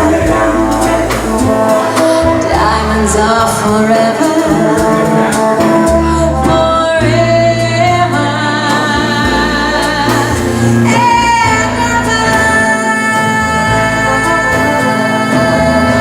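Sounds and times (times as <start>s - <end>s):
band playing slow song: 0.0s - 16.0s.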